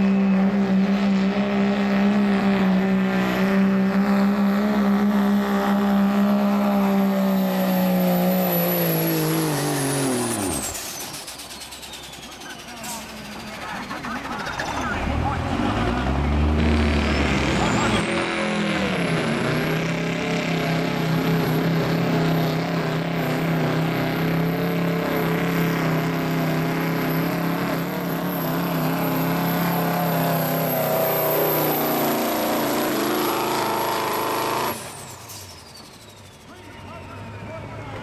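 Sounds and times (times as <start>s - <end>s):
diesel truck engine under load: 0.0s - 38.0s.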